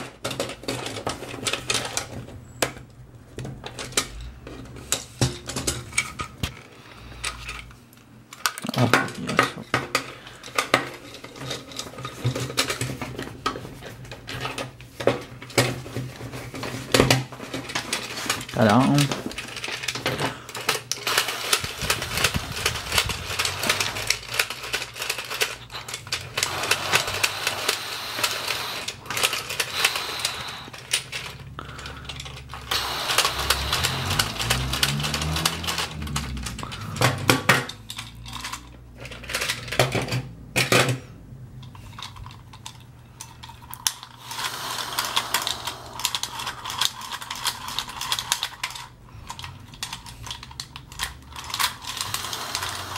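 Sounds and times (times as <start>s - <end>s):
plastic toy pieces clicking: 7.2s - 14.7s, 16.7s - 41.0s, 41.6s - 52.9s.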